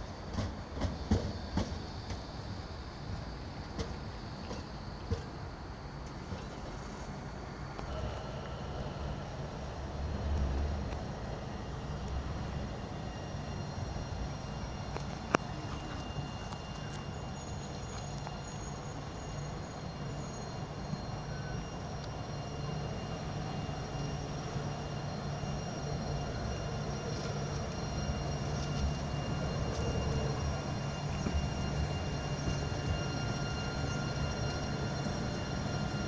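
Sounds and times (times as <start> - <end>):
electric tram humming: 0.0 - 36.0.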